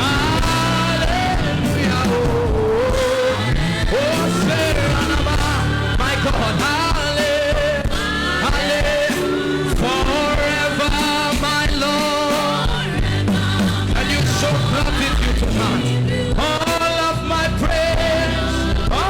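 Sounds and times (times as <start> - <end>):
band accompaniment with bass: 0.0 - 19.0
voices singing held notes: 0.0 - 19.0.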